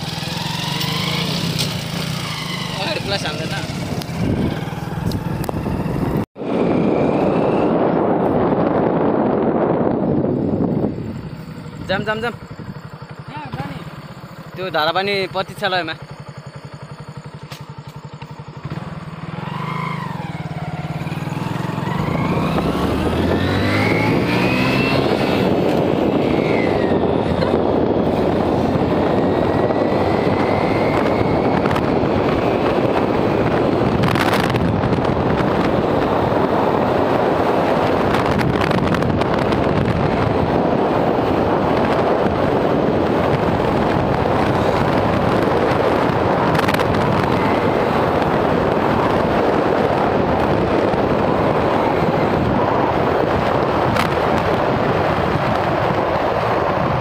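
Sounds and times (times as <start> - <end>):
motorcycle engine accelerating: 0.0 - 57.0
wind noise at speed: 0.0 - 57.0.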